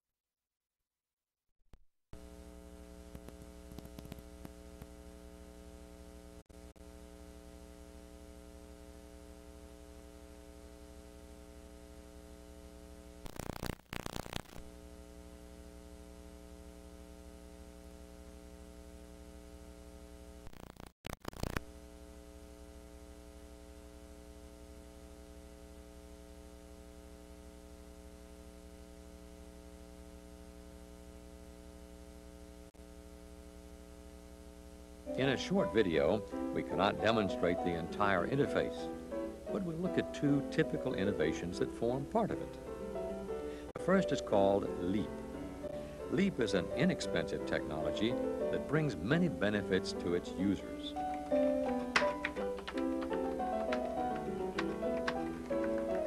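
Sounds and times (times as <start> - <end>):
electrical mains hum: 2.2 - 56.0
loud static crackle: 2.2 - 56.0.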